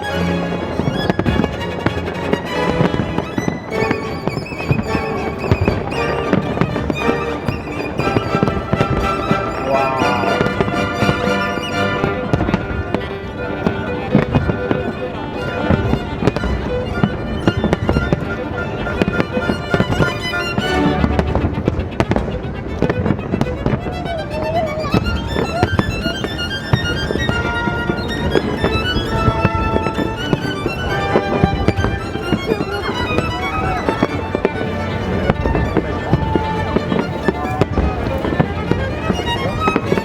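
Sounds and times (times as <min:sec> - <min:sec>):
classical violin music: 0:00.0 - 0:40.0
fireworks bangs and crackles: 0:00.6 - 0:24.2, 0:24.9 - 0:40.0.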